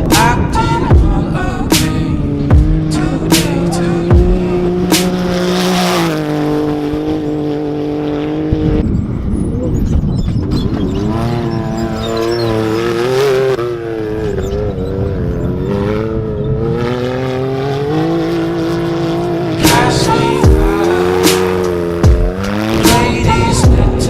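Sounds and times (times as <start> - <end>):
engine revving under load: 0.0 - 24.0.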